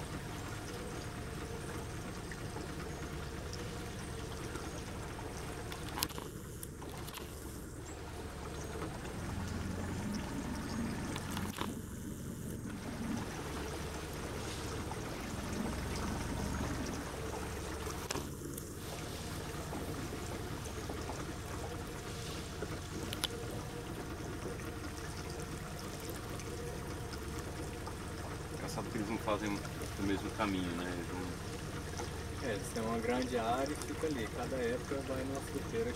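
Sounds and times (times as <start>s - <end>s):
water washing along boat hull: 0.0s - 35.9s.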